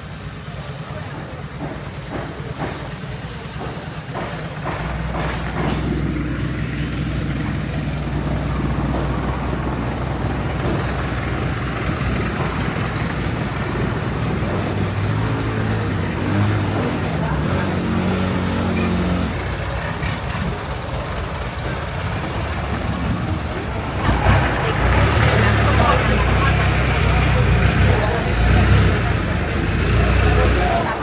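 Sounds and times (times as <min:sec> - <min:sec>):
large engine running: 0:00.0 - 0:31.0.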